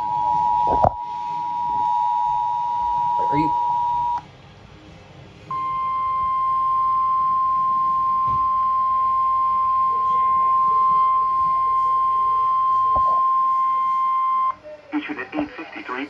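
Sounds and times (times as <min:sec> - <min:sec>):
steady high alarm beep: 0:00.0 - 0:04.2, 0:05.5 - 0:14.6.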